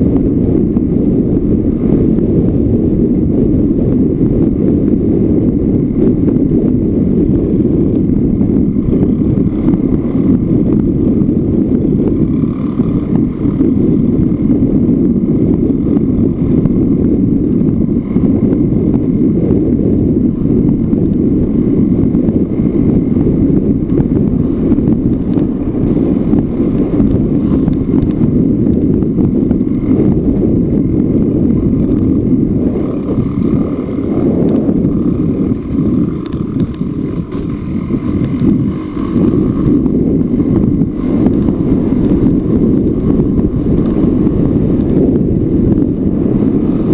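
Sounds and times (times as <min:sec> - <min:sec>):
two-stroke motorbike engine running: 0:00.0 - 0:46.9
wind rushing over microphone: 0:00.0 - 0:46.9.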